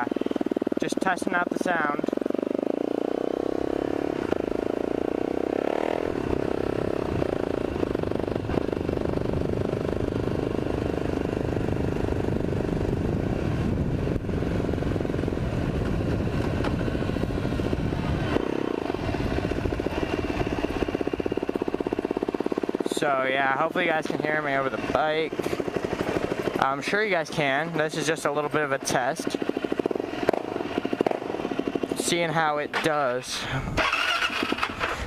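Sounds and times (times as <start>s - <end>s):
quad bike engine running: 0.0s - 35.0s.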